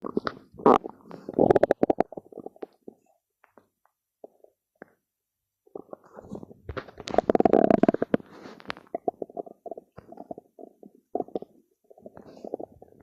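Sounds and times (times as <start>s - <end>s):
stomach growling: 0.0s - 5.0s, 5.7s - 13.0s.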